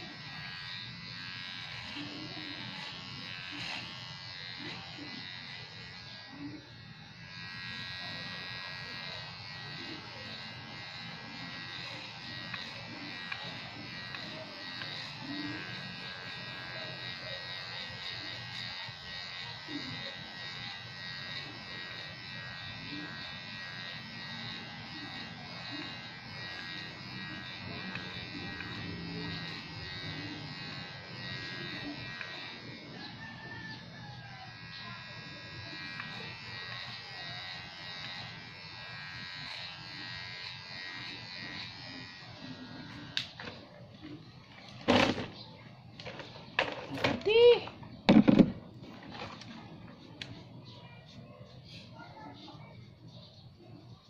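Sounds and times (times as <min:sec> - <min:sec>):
electric hair clipper buzzing: 0:00.0 - 0:52.6.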